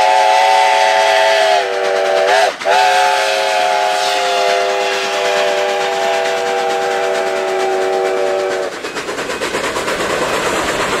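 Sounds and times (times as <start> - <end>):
steam locomotive chime whistle: 0.0 - 8.8
train running clatter: 0.0 - 11.0.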